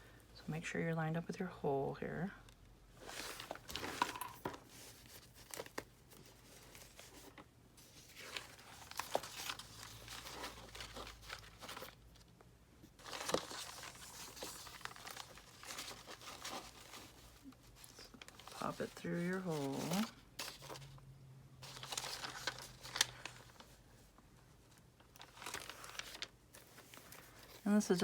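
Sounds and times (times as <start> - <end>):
paper pages rustling: 3.0 - 12.3, 12.9 - 21.0, 21.6 - 28.0.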